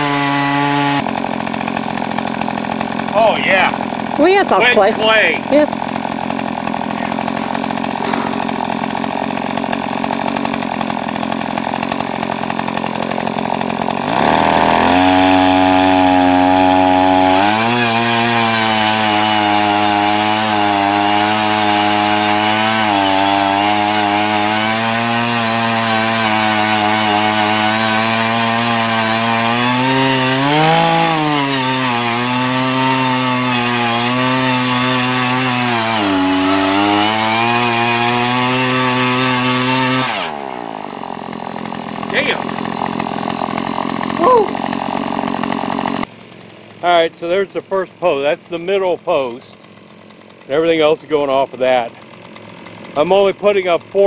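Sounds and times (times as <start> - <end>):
auger engine revving: 0.0 - 54.0.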